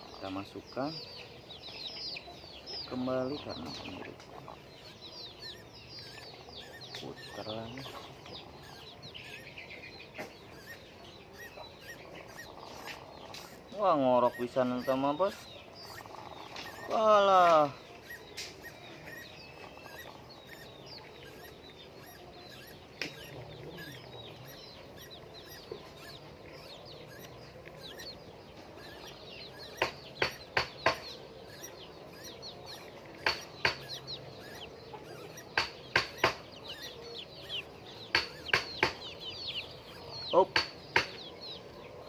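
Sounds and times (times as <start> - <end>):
hens clucking and chirping: 0.0 - 42.0.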